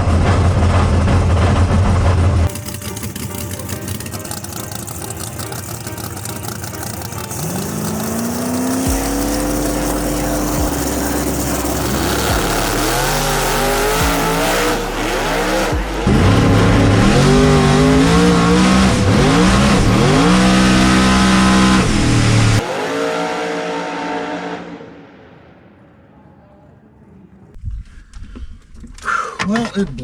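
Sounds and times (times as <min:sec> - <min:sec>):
tires spinning: 0:00.0 - 0:24.8
drag car engine at full throttle: 0:00.0 - 0:25.5.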